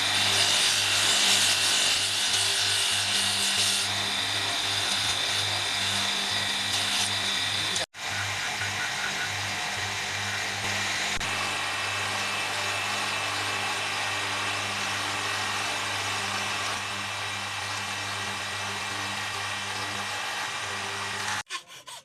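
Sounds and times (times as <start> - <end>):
electric motor humming: 0.0 - 21.4
wood rubbing on sanding wheel: 0.0 - 22.0.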